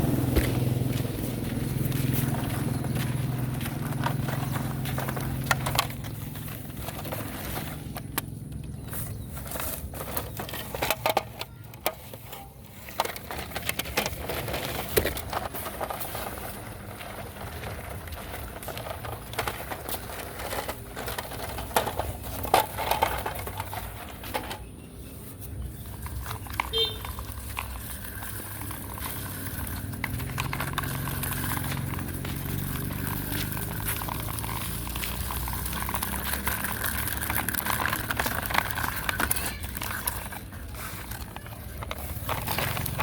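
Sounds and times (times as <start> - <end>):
low motor hum: 0.0 - 11.6, 12.6 - 43.0
model construction vehicles digging dirt: 0.0 - 43.0.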